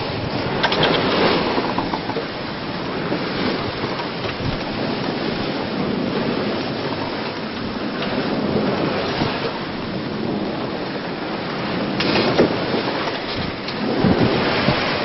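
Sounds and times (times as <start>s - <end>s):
water rushing along a hull: 0.0s - 15.0s
wind buffeting the microphone: 0.0s - 15.0s.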